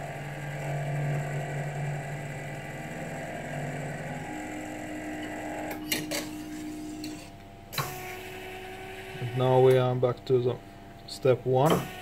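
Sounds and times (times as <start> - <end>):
stepper motors humming: 0.0 - 12.0.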